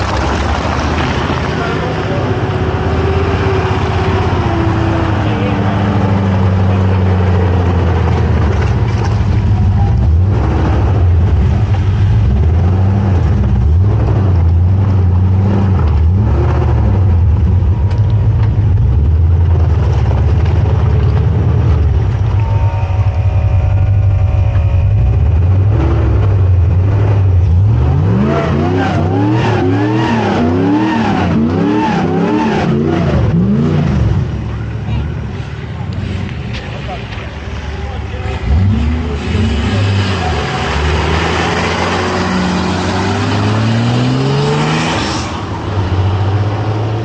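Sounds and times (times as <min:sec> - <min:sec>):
engine revving: 0:00.0 - 0:34.6, 0:38.2 - 0:47.0
car engine running under load: 0:00.0 - 0:47.0.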